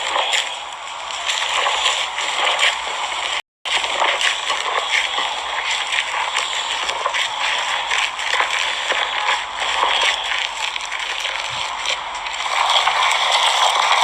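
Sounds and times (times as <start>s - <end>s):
slime squelching by hand: 0.0s - 14.0s.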